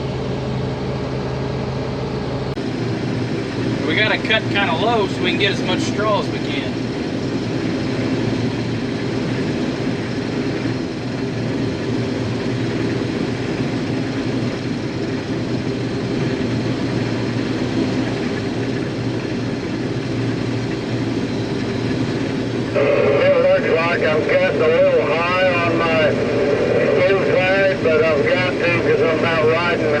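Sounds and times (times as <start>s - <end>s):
combine harvester engine drone: 0.0s - 30.0s
threshing machinery noise: 0.0s - 30.0s.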